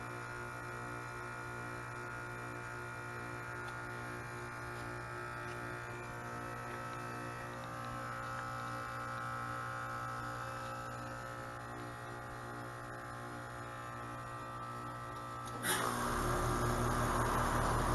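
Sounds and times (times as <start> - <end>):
compressor hum: 0.0 - 17.9.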